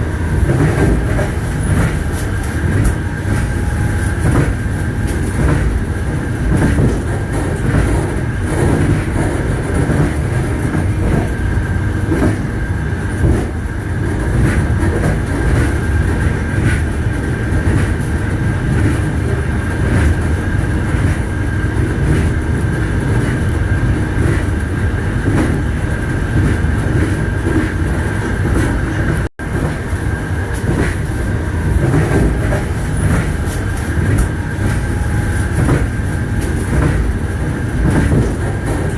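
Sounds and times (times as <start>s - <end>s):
train wheels rumbling on rails: 0.0s - 38.9s
wheels clacking over rail joints: 0.0s - 38.9s.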